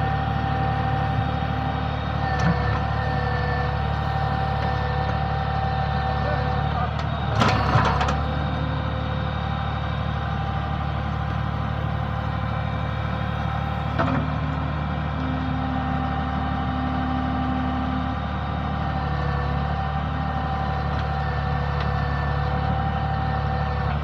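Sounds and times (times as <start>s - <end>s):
digger diesel engine running: 0.0s - 24.0s.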